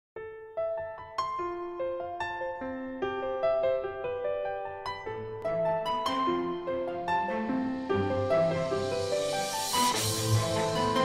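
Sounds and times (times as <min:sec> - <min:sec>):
soft piano melody: 0:00.2 - 0:11.0.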